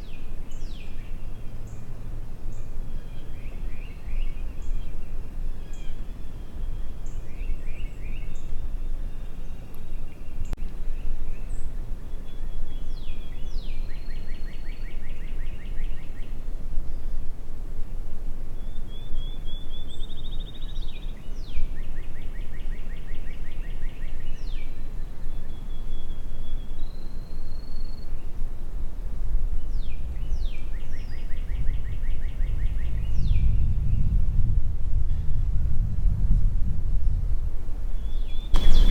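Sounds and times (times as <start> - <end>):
songbird trilling song: 0.0 - 17.3, 18.5 - 28.8, 29.5 - 34.2, 37.9 - 38.9
wind rumbling on microphone: 0.0 - 38.9.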